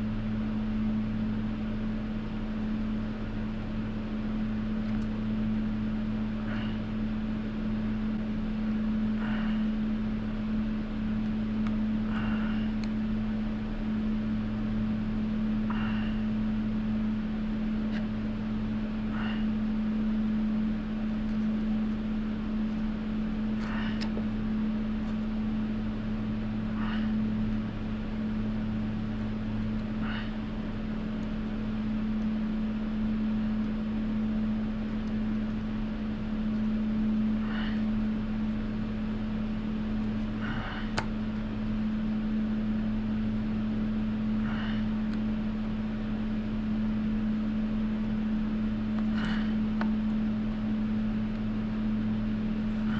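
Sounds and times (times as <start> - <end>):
space heater humming: 0.0 - 52.9.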